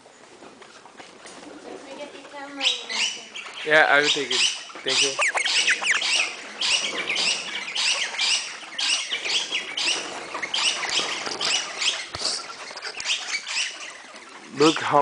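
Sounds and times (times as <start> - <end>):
birds screeching and chattering: 0.7 - 15.0.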